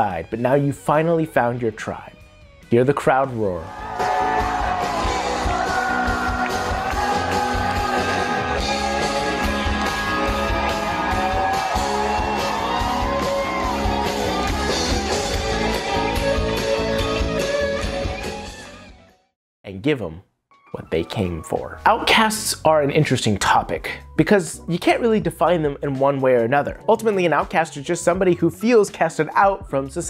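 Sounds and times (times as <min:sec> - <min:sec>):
keyboard: 0:00.0 - 0:19.2, 0:19.8 - 0:30.0
drums: 0:01.8 - 0:18.9, 0:21.4 - 0:30.0.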